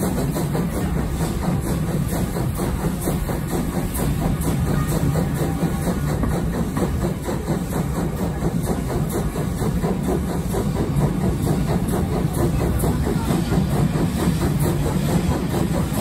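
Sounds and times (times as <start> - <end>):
carriages running on rails: 0.0 - 16.0
steam locomotive exhaust beats: 0.0 - 16.0.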